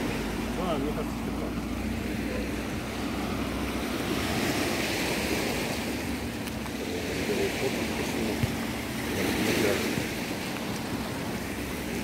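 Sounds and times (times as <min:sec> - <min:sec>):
waves washing onto rocky shore: 0:00.0 - 0:12.0
wind rumble on microphone: 0:01.5 - 0:12.0.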